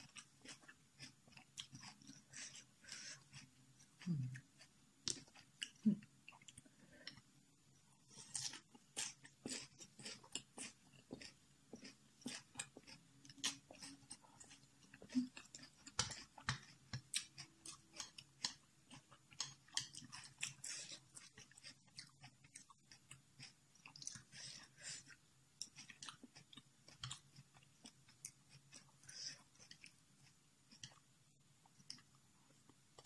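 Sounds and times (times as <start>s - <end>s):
person chewing crunchy noodles: 0.0s - 7.2s, 8.0s - 33.0s.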